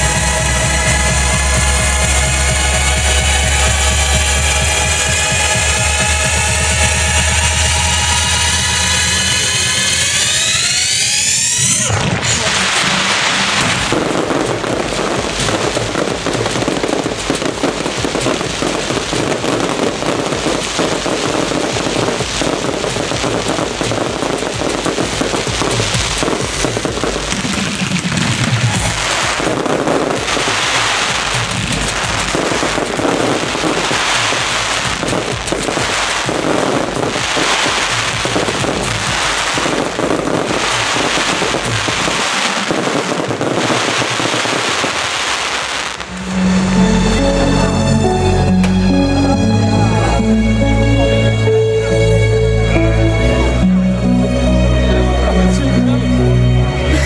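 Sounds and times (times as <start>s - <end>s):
fireworks bangs and crackle: 0.0s - 47.2s.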